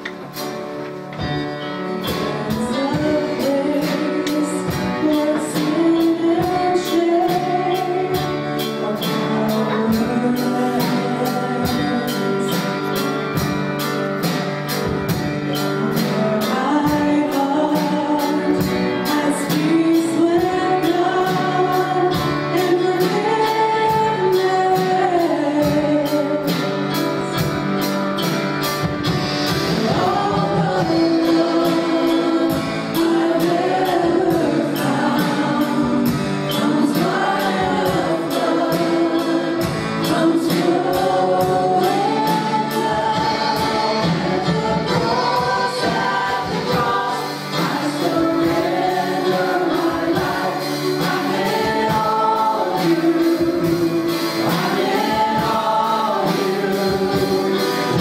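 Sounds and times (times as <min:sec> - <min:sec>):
band with steady drum beat: 0:00.0 - 0:58.0
voices singing together: 0:02.0 - 0:13.0, 0:15.6 - 0:27.4, 0:29.5 - 0:58.0.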